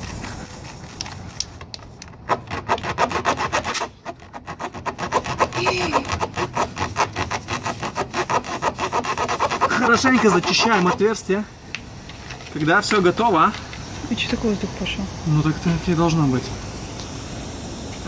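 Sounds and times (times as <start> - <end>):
steel reamer rasping rubber tire: 2.0 - 16.8.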